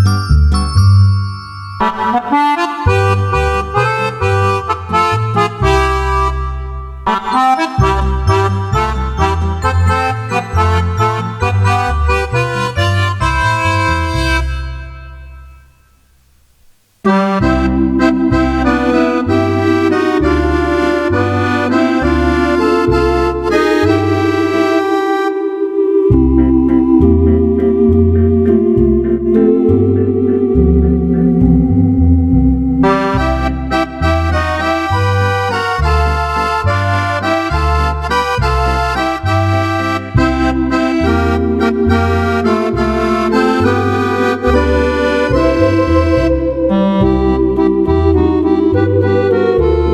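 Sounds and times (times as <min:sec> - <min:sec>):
accordion bass line: 0:00.0 - 0:01.2, 0:01.8 - 0:15.8, 0:17.0 - 0:49.9
accordion treble chords: 0:00.0 - 0:16.1, 0:17.0 - 0:49.9.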